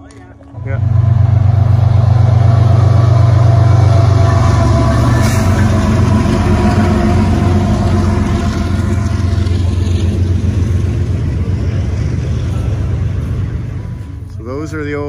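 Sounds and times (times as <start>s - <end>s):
diesel locomotives droning: 0.0s - 15.0s.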